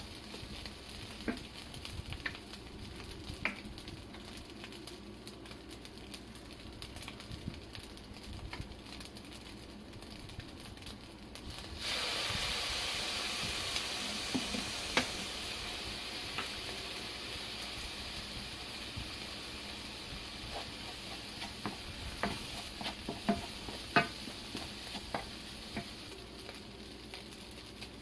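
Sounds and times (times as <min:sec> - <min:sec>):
rice sizzling in a frying pan: 0:00.0 - 0:28.0.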